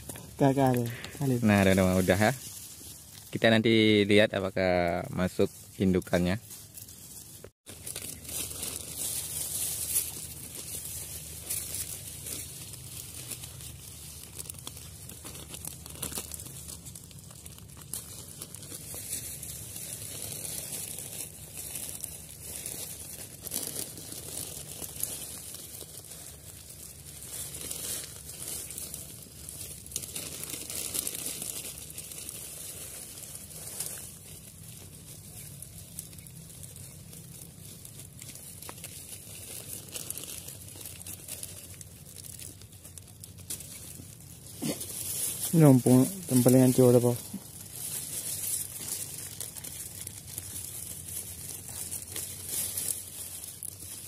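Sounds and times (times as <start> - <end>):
plastic bag crinkling: 0.0 - 54.0.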